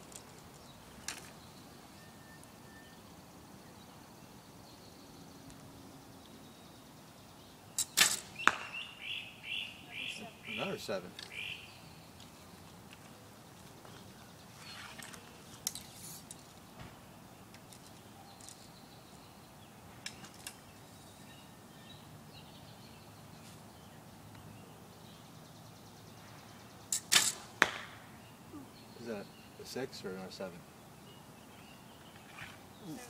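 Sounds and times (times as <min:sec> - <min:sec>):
soft bird chirps: 0:00.2 - 0:27.1, 0:28.1 - 0:33.0.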